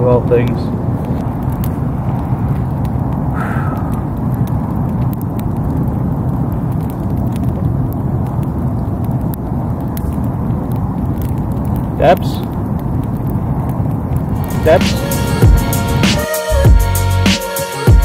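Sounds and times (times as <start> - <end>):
fire pops and snaps: 0.0 - 16.2
steady low rumble: 0.0 - 17.3
campfire crackling: 0.0 - 18.0.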